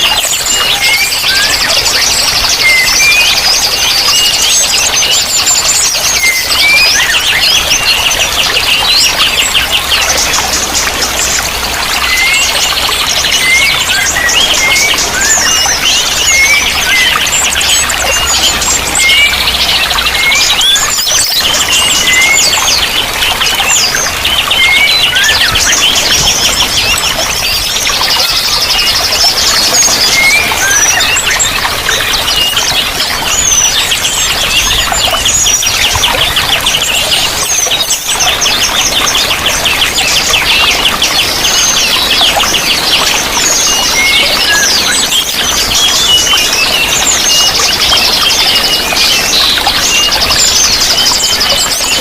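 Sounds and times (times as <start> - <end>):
running water: 0.0 - 52.0
songbirds chirping and trilling: 0.0 - 52.0.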